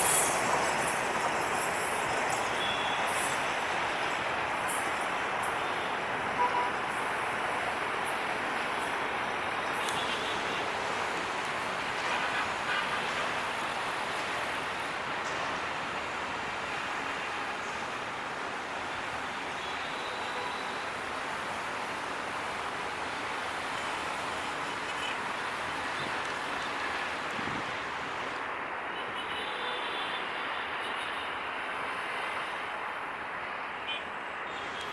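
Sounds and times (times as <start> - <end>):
train rolling on rails: 0.0 - 29.2.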